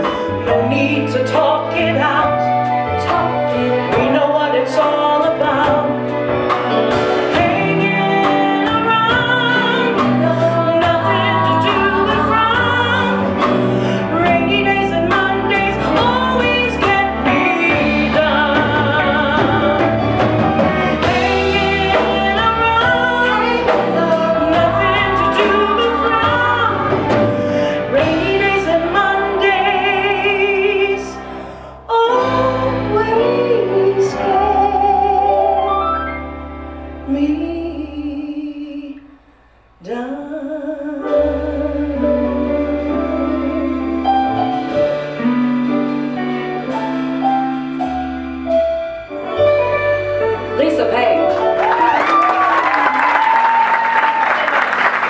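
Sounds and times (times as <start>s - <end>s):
woman singing lead vocal: 0.0s - 6.3s, 7.2s - 35.7s, 37.0s - 47.5s
soft-rock band playing: 0.0s - 37.4s, 41.2s - 55.0s.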